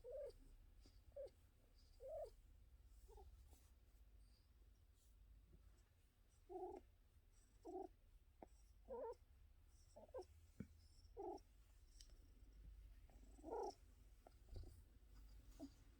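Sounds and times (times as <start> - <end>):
cat purring faintly: 0.0 - 15.9.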